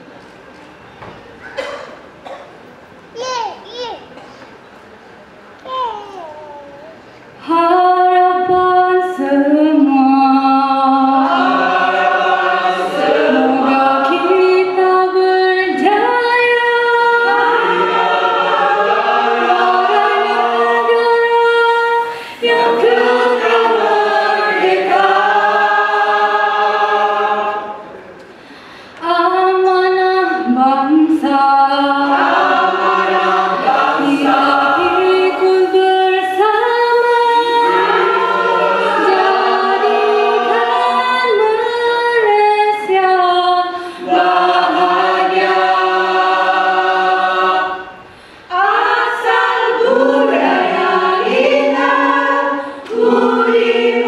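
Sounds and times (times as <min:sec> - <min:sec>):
mixed choir singing unaccompanied: 0:07.4 - 0:28.2, 0:29.1 - 0:54.0.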